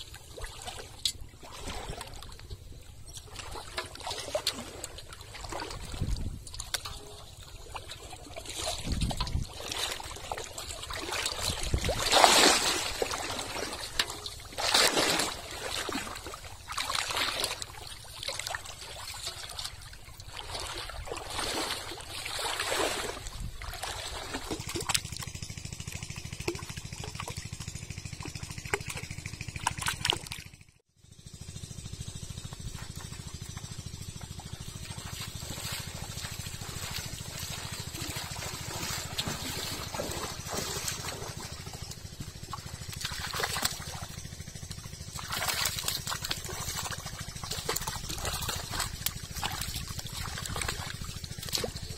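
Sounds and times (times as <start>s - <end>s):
steady low rumble: 0.0s - 29.8s, 31.2s - 51.9s
water splashing as someone wades: 0.0s - 30.7s, 32.5s - 51.9s.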